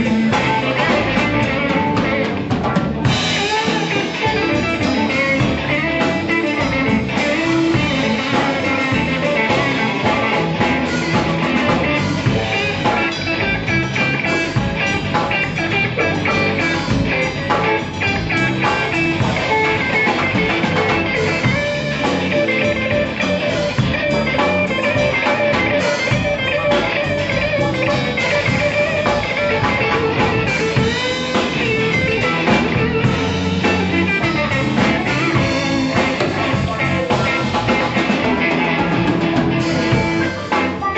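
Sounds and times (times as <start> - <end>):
electric guitar: 0.0 - 40.9
live blues-rock band playing: 0.0 - 40.9.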